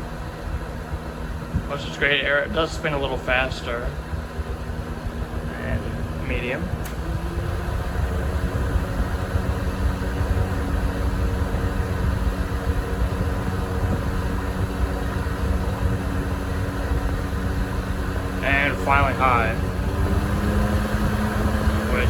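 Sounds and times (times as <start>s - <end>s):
fan blowing air with motor hum: 0.0s - 22.0s.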